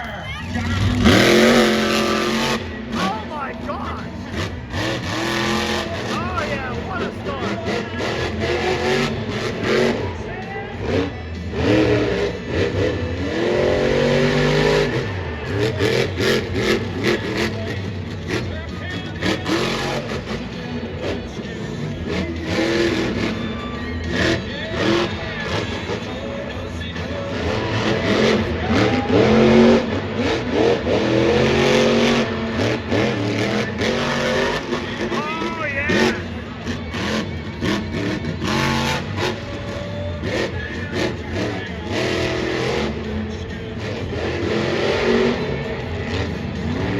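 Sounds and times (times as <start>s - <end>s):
monster truck engines revving: 0.0s - 46.9s.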